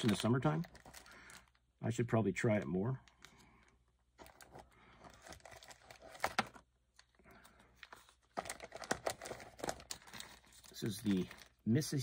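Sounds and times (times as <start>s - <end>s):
plastic packaging crinkling: 0.0s - 1.6s, 3.0s - 7.2s, 7.8s - 12.0s.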